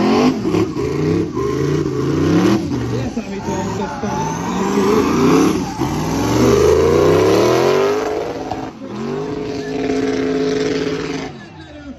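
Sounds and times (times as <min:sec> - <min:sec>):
car engine revving hard: 0:00.0 - 0:11.4.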